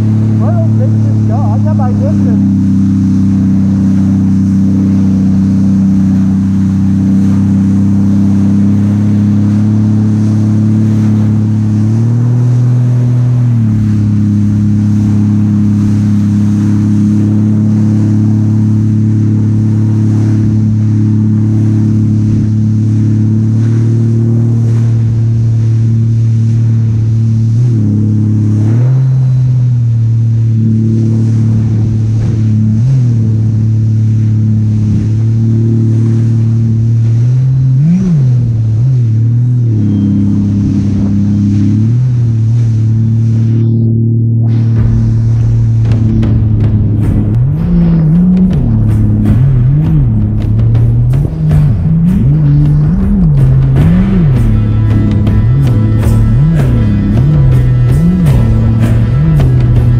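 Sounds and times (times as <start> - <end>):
jet ski engine running: 0.0 - 59.9.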